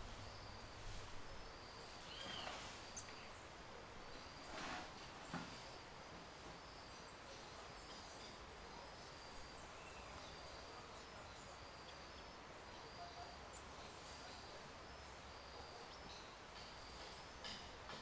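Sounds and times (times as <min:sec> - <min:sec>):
low hiss: 0:00.0 - 0:18.0.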